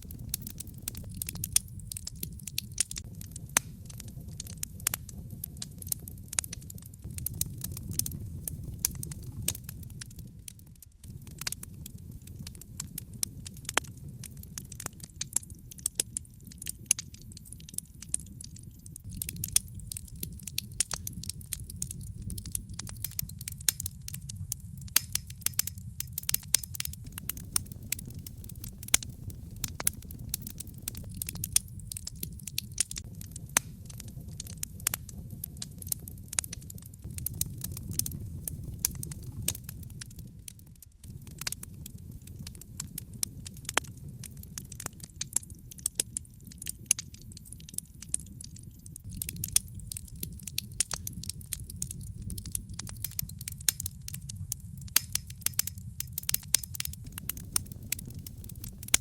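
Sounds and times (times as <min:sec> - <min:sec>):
log fire crackling and popping: 0:00.0 - 0:59.0
low rumble of flames: 0:00.0 - 0:59.0.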